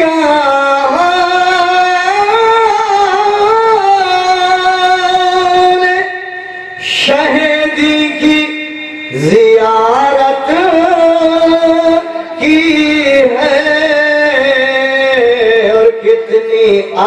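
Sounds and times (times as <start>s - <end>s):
man singing devotional poem: 0.0s - 17.0s.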